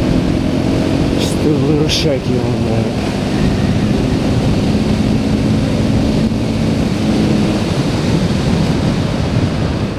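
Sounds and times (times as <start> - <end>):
motorcycle engine running steadily: 0.0 - 9.9
wind rush on microphone: 0.0 - 9.9.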